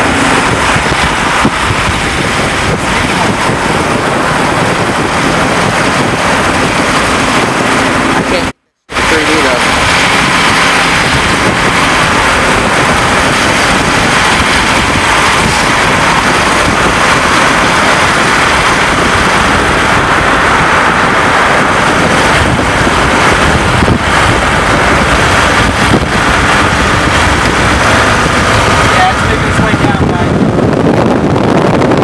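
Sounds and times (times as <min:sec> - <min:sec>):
wind and road noise: 0:00.0 - 0:32.0
wind buffeting microphone: 0:00.0 - 0:32.0.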